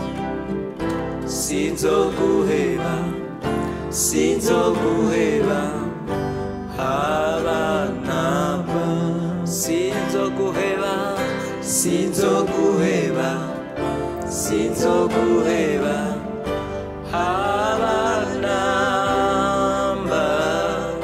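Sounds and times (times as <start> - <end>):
acoustic guitar: 0.0 - 21.0
keyboard chords: 0.0 - 21.0
man and woman singing together: 1.4 - 21.0.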